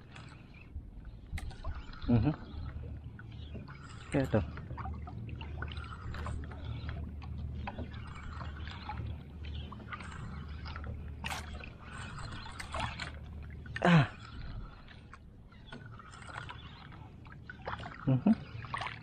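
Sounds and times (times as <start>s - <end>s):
steady low rumble: 0.0s - 15.6s
water lapping against boat hull: 0.0s - 19.0s.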